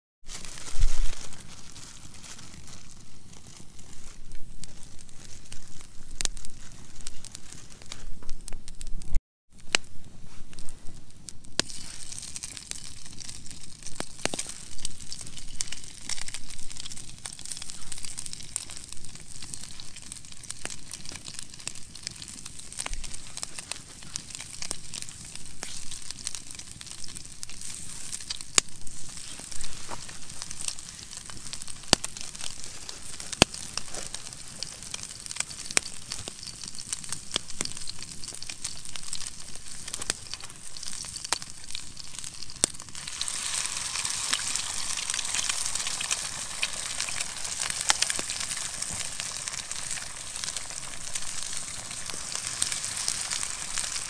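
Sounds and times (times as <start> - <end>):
campfire crackling and popping: 0.2 - 54.0
meat sizzling in a pan: 0.2 - 54.0.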